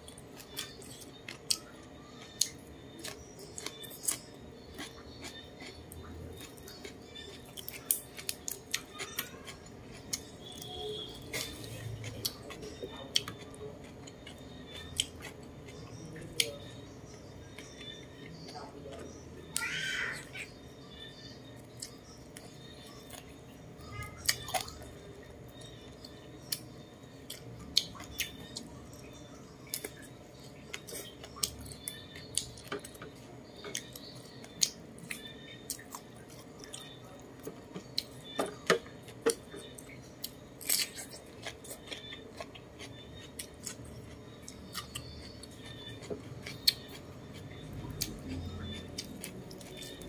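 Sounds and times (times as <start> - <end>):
chewing chicken: 0.0 - 50.0.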